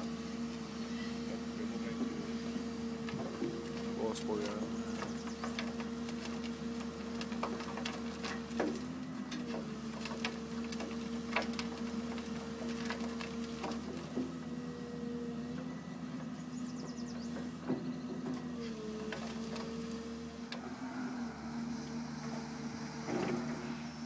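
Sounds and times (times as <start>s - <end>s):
excavator diesel engine drone: 0.0s - 24.0s.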